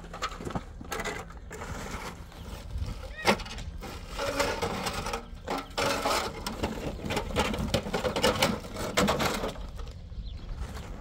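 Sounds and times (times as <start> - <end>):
metal frame scraping concrete block: 0.0 - 9.9
building tools clattering on gravel: 0.0 - 11.0.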